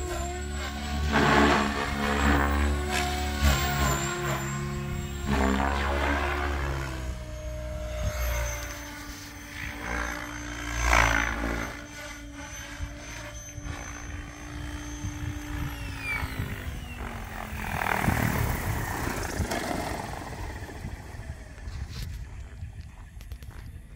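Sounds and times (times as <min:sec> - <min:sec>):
rc helicopter motor whine: 0:00.0 - 0:23.9.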